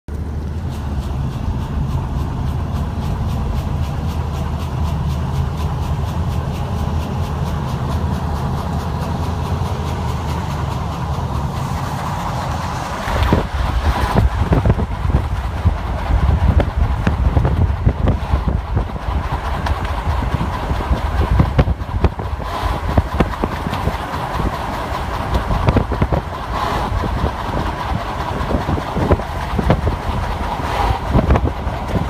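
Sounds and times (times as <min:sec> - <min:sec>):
tyres and engine rumbling: 0:00.1 - 0:32.0
wind buffeting microphone: 0:00.2 - 0:32.0.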